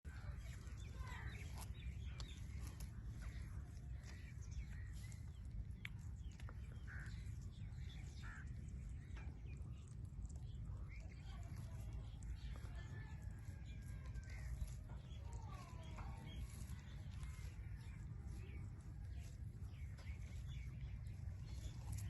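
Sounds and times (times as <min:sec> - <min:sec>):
low hum: 0:00.1 - 0:22.0.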